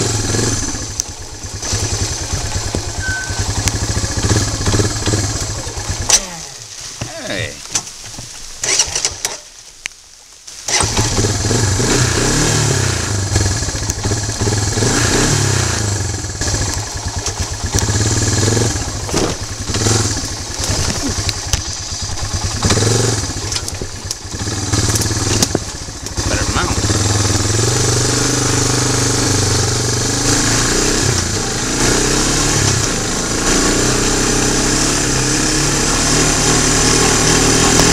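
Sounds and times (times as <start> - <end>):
quad engine running: 0.0 - 6.6, 10.7 - 37.9.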